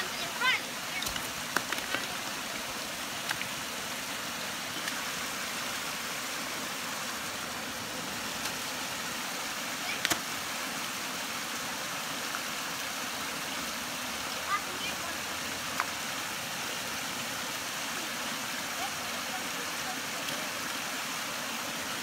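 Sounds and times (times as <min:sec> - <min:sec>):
water rushing over rock ledge: 0:00.0 - 0:22.0.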